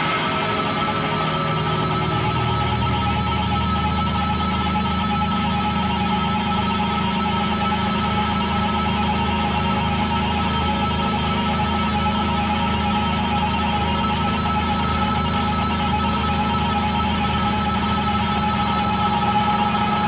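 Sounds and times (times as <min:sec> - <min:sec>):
bass amplifier feedback drone: 0:00.0 - 0:20.0.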